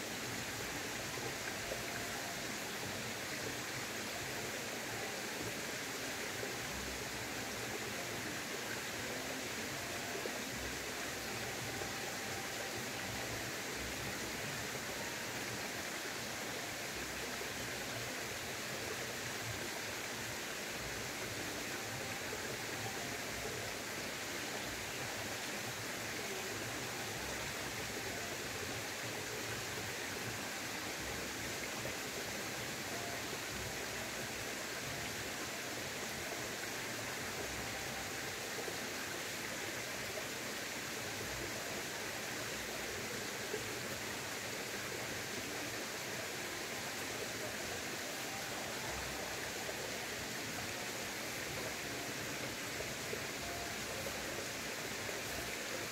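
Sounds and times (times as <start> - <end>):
stream rushing water: 0.0 - 55.9.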